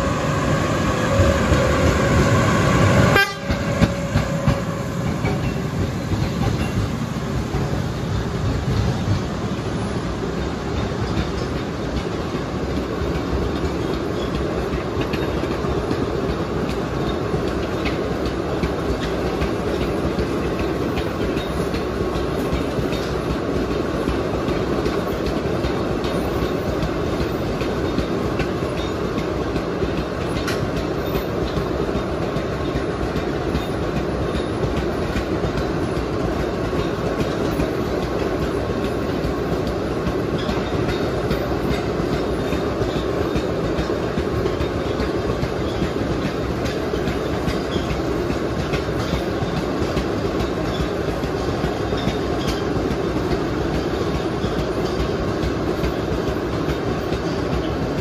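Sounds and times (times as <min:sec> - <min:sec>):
train cars rolling rumble: 0:00.0 - 0:58.0
wheels clacking over rail joints: 0:00.0 - 0:58.0.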